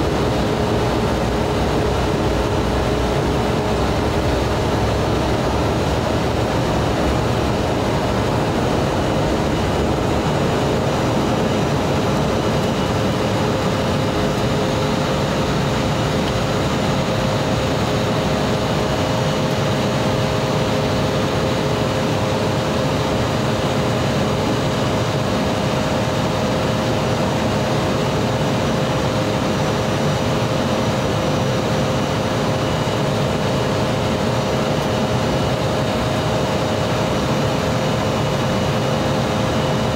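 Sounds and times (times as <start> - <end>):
jet engines at takeoff thrust: 0.0 - 39.9
rush of air noise: 0.0 - 39.9
steady pitched hum: 0.0 - 39.9.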